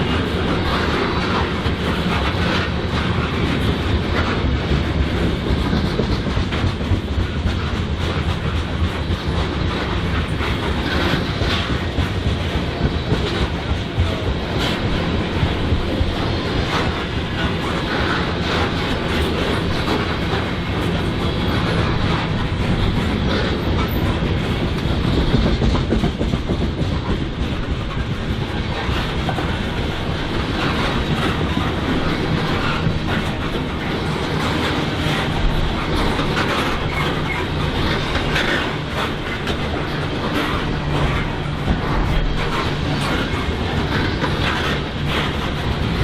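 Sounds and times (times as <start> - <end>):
train wheels clacking on rails: 0.0 - 46.0.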